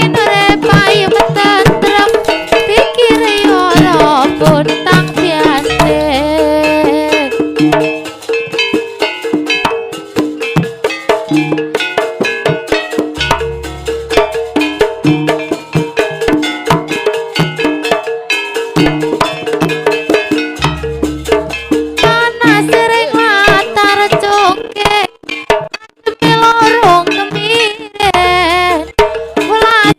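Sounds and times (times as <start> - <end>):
drums: 0.0 - 29.9.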